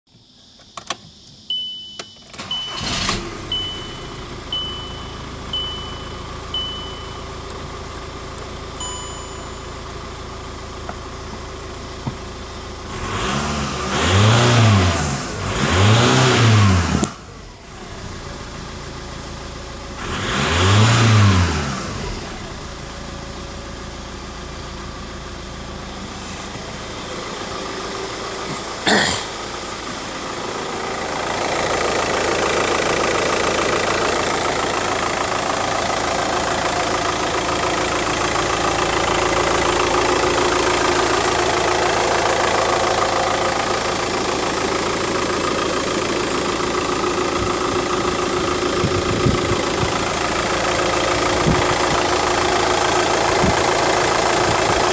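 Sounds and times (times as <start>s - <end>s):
car engine idling and revving: 0.2s - 54.9s.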